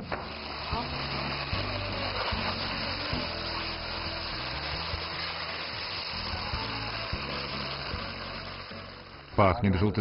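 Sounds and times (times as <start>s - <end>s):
background music low notes: 0.0s - 10.0s.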